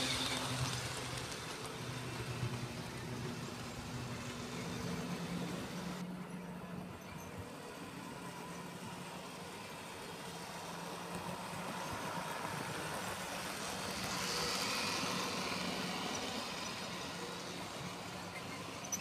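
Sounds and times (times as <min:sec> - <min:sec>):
model train wheels rolling: 0:00.0 - 0:19.0.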